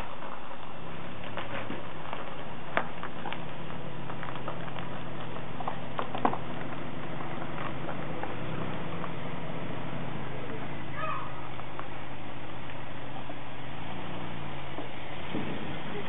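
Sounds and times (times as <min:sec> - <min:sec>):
low engine hum: 0:00.0 - 0:16.0
tyres crunching on gravel: 0:00.0 - 0:16.0.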